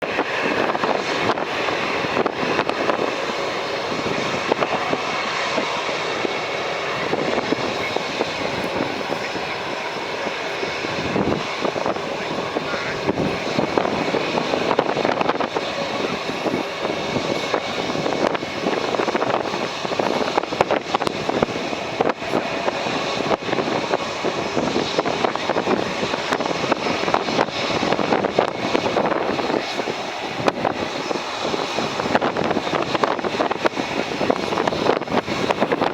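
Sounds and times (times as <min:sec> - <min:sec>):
jet engine rush: 0:00.0 - 0:35.9
wind buffeting microphone: 0:00.0 - 0:35.9.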